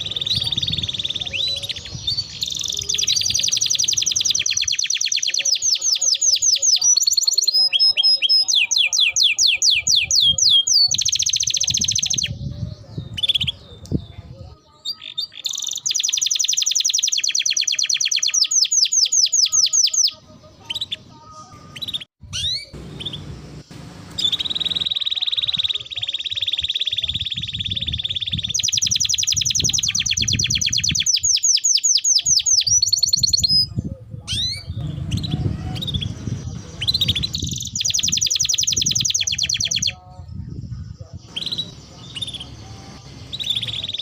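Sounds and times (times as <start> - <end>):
bird chirps: 0.0 - 44.0
canary singing rolling trills: 0.0 - 44.0.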